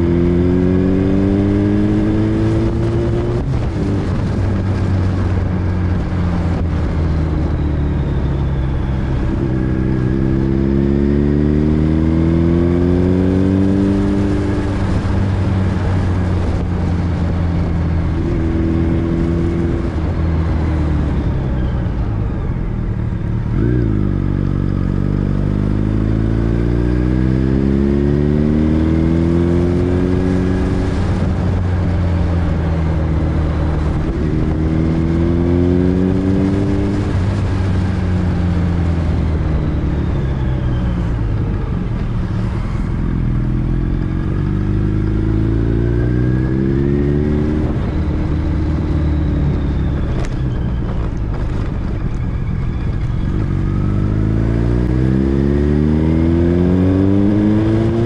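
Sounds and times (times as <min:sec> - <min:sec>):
vehicle engine accelerating: 0:00.0 - 0:58.0.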